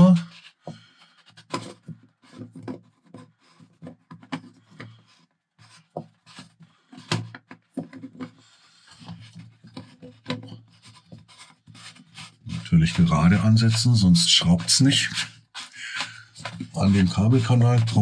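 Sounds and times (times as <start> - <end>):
nut rubbing and scraping on pipe: 0.2 - 18.0.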